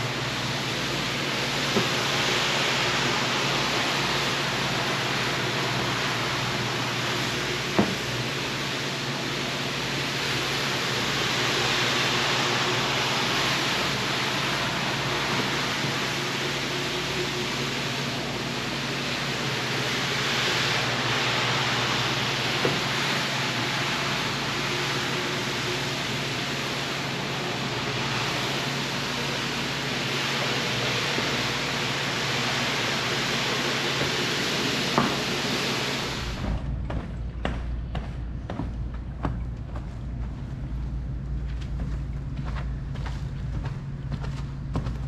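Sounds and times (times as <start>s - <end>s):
hissing rush of washing machine: 0.0s - 45.0s
low motor hum: 0.0s - 45.0s.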